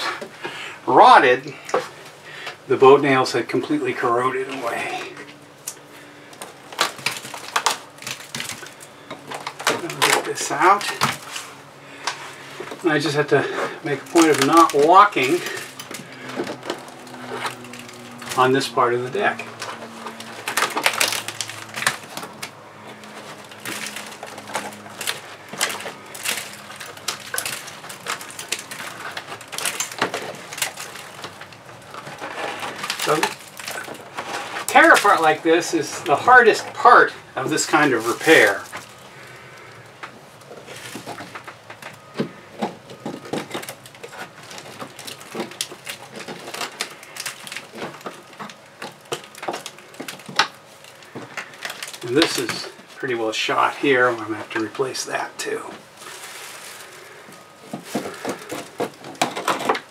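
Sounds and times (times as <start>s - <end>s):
rotted wood cracking and snapping: 0.0s - 59.9s.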